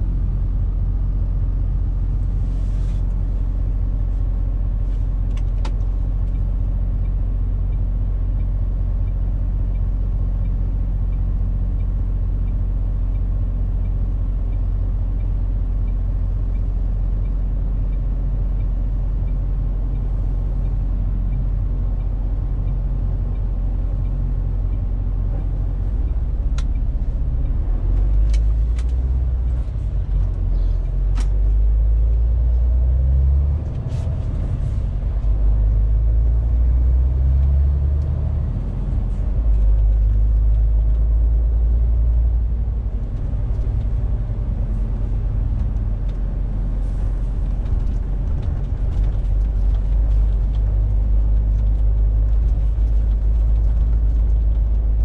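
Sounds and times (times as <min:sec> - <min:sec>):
diesel truck engine: 0:00.0 - 0:55.0.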